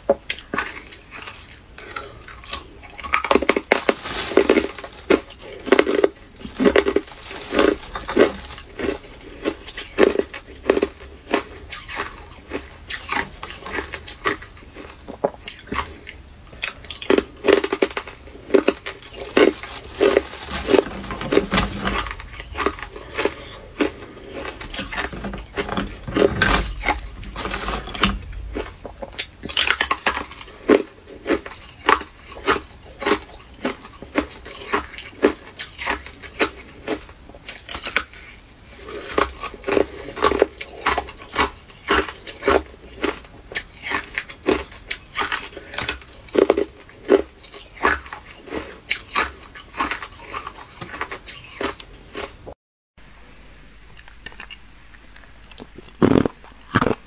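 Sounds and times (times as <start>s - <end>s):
ice crunching between teeth: 0.3s - 52.4s, 53.9s - 57.0s.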